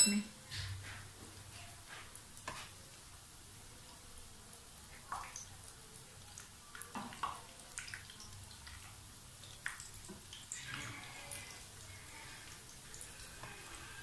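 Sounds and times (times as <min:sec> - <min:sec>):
oil bubbling and sizzling: 0:00.3 - 0:14.0.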